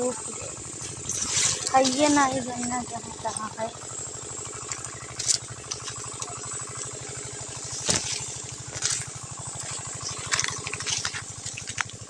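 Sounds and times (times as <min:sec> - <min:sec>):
dry crackling rustles: 0:00.0 - 0:03.7, 0:04.3 - 0:12.0
small engine idling: 0:00.0 - 0:12.0.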